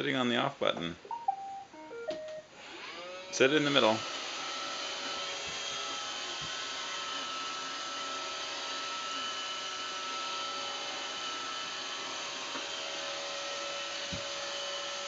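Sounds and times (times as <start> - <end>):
robot vacuum whirring: 2.6 - 15.0.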